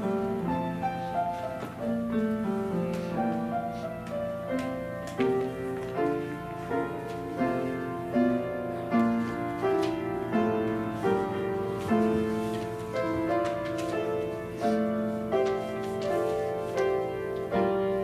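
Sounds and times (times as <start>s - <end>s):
slow quiet piano piece: 0.0s - 18.0s.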